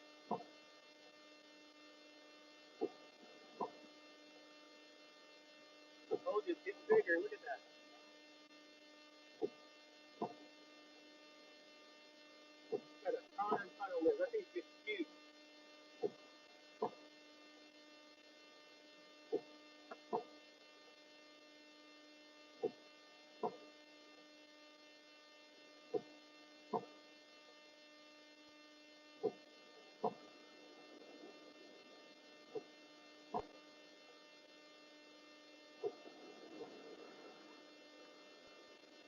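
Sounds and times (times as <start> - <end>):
electrical hum: 0.0 - 39.0.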